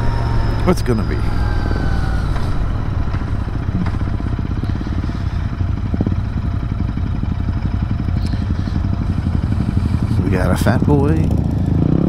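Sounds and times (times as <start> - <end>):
motorcycle engine pulsing: 0.0 - 12.0.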